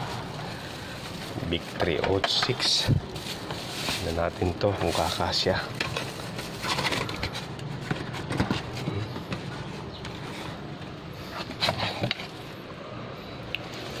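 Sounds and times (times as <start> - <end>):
cardboard and plastic rustling: 0.0 - 12.6, 13.7 - 14.0.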